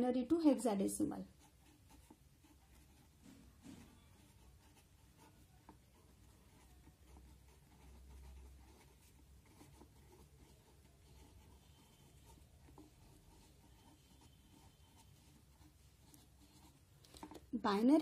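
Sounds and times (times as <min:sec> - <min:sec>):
marker pen scratching on paper: 0:00.4 - 0:18.0.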